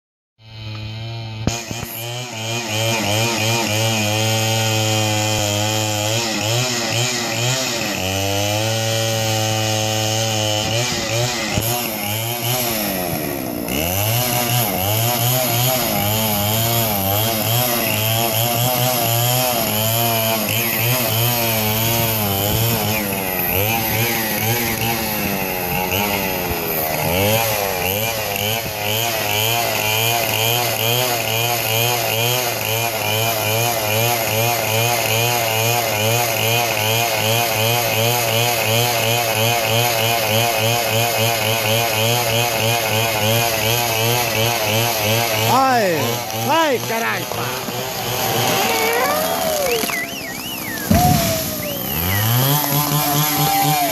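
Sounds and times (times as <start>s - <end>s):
small engine revving: 0.4s - 53.9s.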